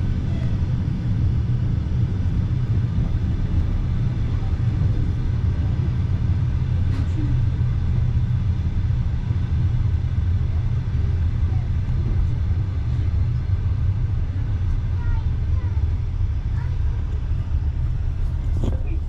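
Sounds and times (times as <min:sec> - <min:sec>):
train carriage drone: 0:00.0 - 0:19.0.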